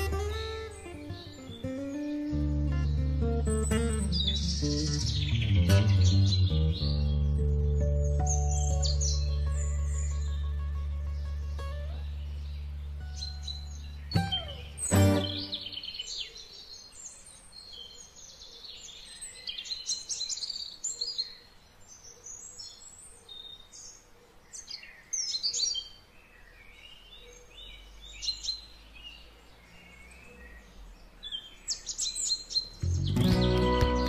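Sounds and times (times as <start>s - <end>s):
faint background hiss: 0.0s - 5.4s, 6.6s - 33.1s
songbirds chirping: 0.0s - 34.0s.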